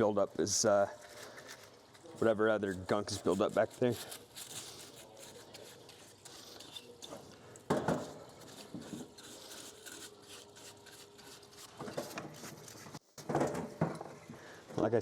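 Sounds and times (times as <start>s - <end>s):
hand tool scraping grime: 0.0s - 13.0s.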